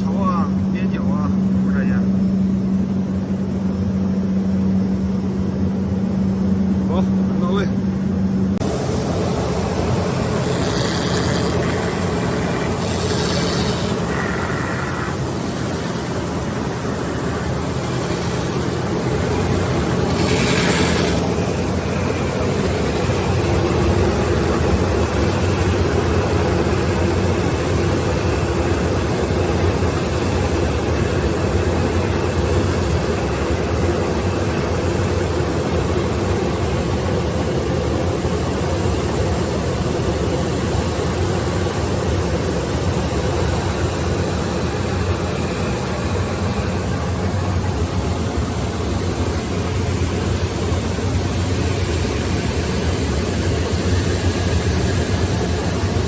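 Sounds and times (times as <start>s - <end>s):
motor hum: 0.0s - 56.0s
sanding rolls rushing noise: 8.6s - 38.6s, 40.9s - 56.0s.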